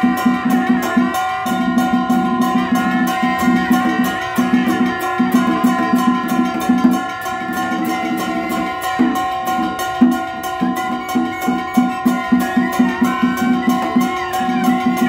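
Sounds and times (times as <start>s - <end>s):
quick drum strokes: 0.0s - 15.0s
shawm melody: 0.0s - 15.0s.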